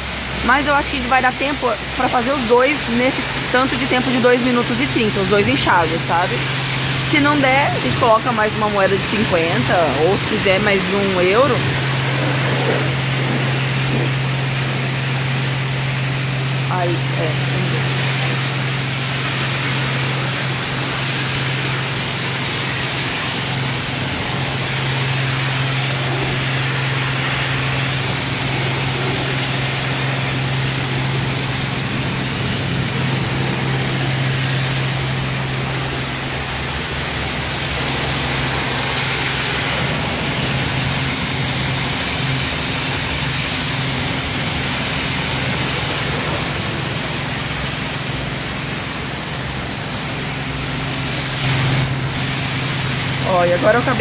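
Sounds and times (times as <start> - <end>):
high-pressure water jet spraying: 0.0 - 54.0
steady low hum: 0.0 - 54.0.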